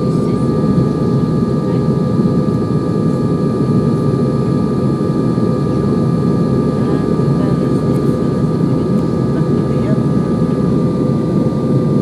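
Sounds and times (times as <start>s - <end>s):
airliner engine and airflow roar: 0.0s - 12.0s
thin constant whine: 0.0s - 12.0s.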